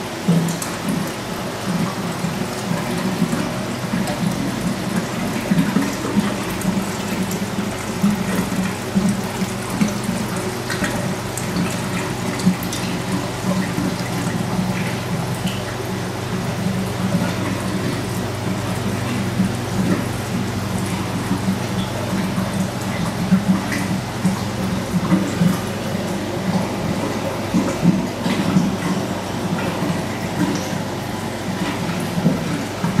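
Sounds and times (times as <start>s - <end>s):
aquarium water splashing: 0.0s - 33.0s.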